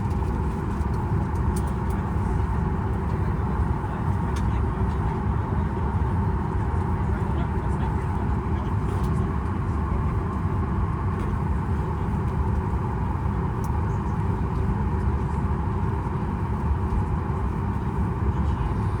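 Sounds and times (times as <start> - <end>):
airplane cabin rumble and hiss: 0.0 - 19.0.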